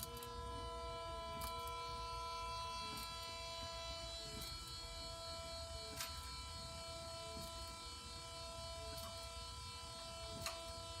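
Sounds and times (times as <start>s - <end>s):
electrical whine: 0.0s - 11.0s
low electrical hum: 0.0s - 11.0s.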